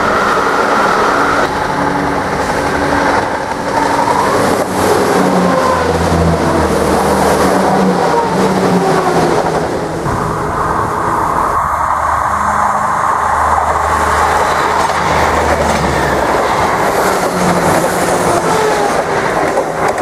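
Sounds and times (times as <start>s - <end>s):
diesel train engines droning: 0.0s - 20.0s
train wheels rumbling on rails: 0.0s - 20.0s.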